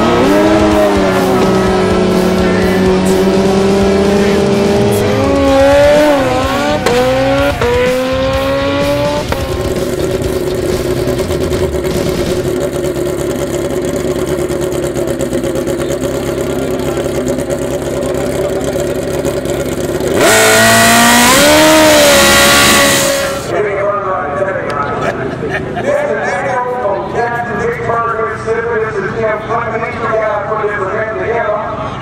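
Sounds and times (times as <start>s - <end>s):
motorcycle engines at full throttle: 0.0s - 32.0s.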